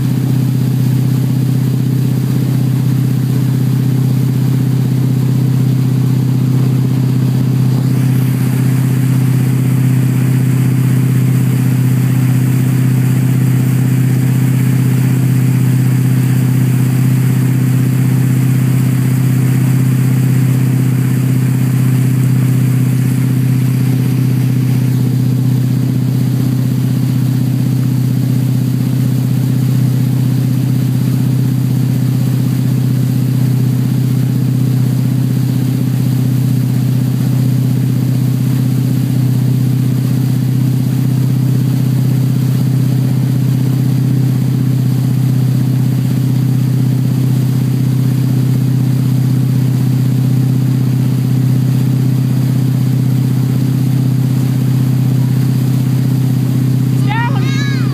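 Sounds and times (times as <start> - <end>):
boat engine deep hum: 0.0 - 57.9.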